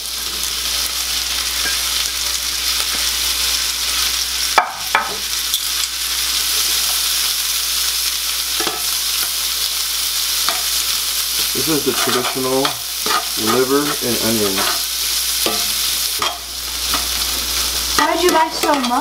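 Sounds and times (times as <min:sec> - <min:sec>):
onions sizzling in a skillet: 0:00.0 - 0:19.0.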